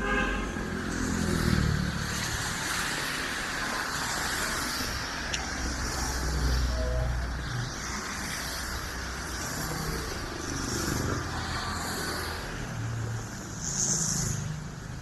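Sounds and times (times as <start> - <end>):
car engines rumbling: 0.0 - 15.0
tyres hissing on wet road: 0.0 - 15.0.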